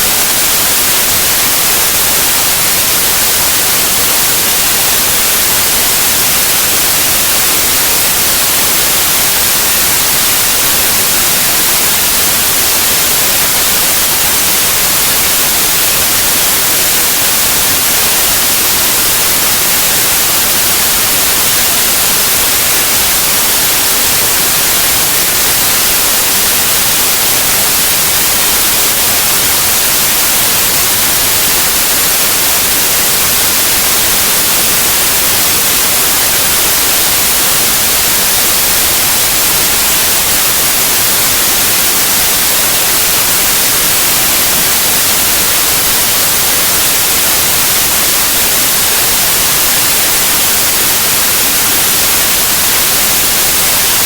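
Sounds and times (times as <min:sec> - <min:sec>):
loud white noise hiss: 0:00.0 - 0:54.0.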